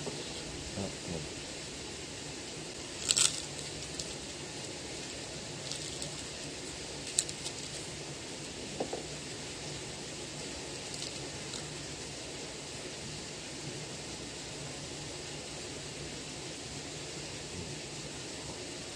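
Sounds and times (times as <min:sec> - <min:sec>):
steady low hiss: 0:00.0 - 0:18.9.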